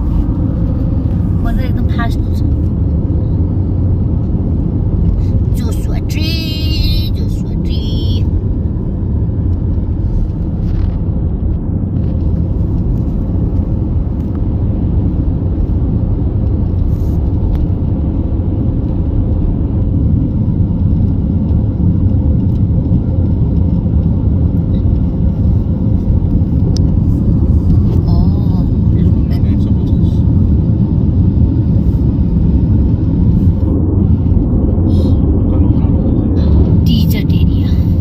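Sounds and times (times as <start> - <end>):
vehicle road and engine rumble: 0.0 - 38.0.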